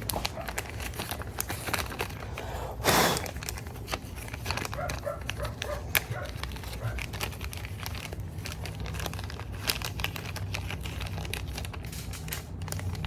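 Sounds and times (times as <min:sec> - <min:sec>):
crinkling plastic packaging: 0:00.0 - 0:13.0.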